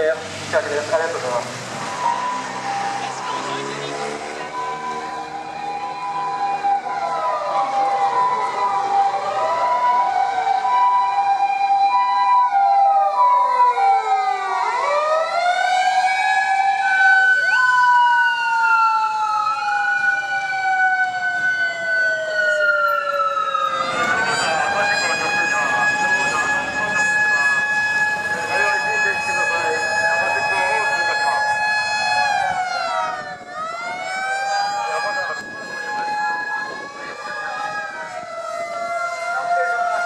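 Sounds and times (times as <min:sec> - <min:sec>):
emergency vehicle sirens wailing: 0:00.0 - 0:40.0.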